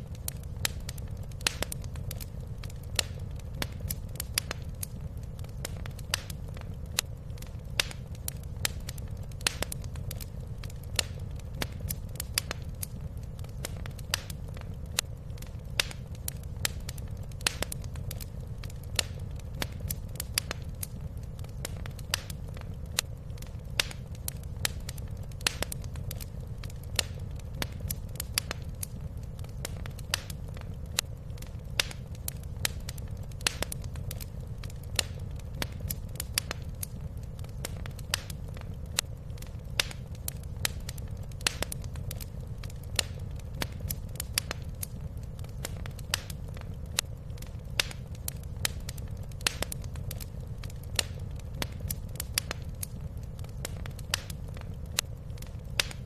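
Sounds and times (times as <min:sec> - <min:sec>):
low fire rumble: 0:00.0 - 0:56.0
wood fire crackling: 0:00.0 - 0:56.0.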